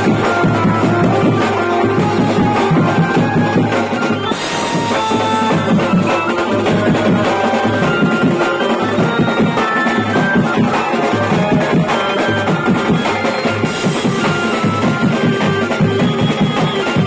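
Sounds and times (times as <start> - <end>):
cymbals: 0.0 - 17.0
drummers beating fast rhythms: 0.0 - 17.0
keyboard melody: 0.0 - 17.0.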